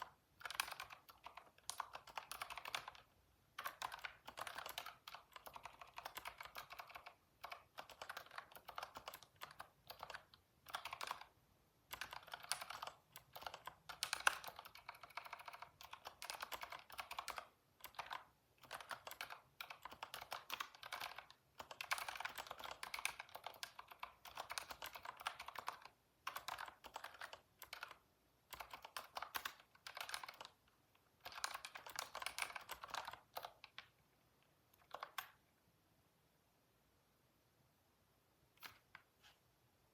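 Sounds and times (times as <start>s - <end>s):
typing on computer keyboard: 0.0s - 34.0s, 34.7s - 35.4s.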